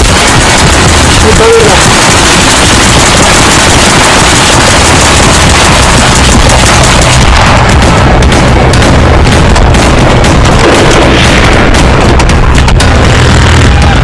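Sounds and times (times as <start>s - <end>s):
rapid gunfire: 0.0s - 14.0s.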